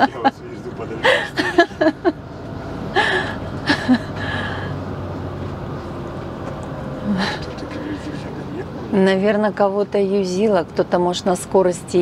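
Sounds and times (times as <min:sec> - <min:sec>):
motorhome engine and road noise: 0:00.0 - 0:12.0.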